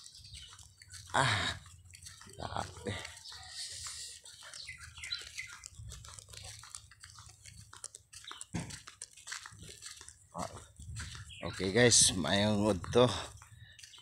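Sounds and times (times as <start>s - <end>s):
footsteps scuffing on dusty ground: 0.0s - 14.0s.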